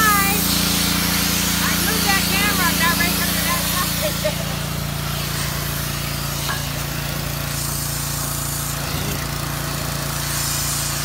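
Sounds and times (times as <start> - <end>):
high-pressure water jet hissing: 0.0 - 11.0
pressure washer motor humming: 0.0 - 11.0.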